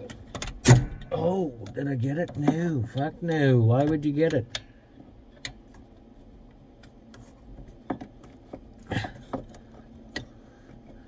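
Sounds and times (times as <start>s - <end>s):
small metallic clicks and taps: 0.0s - 11.0s.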